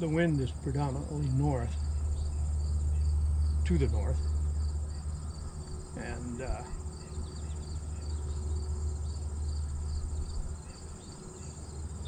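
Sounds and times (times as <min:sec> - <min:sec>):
steady low rumble: 0:00.0 - 0:10.6
crickets chirping: 0:00.0 - 0:12.0.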